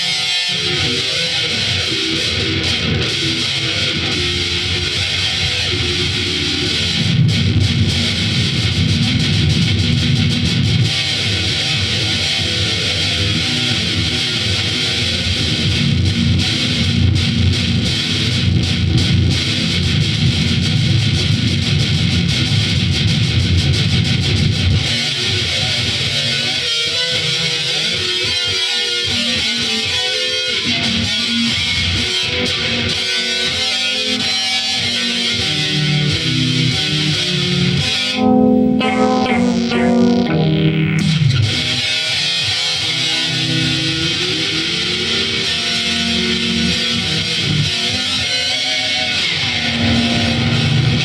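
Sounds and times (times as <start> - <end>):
electric guitar playing: 0.0 - 51.0.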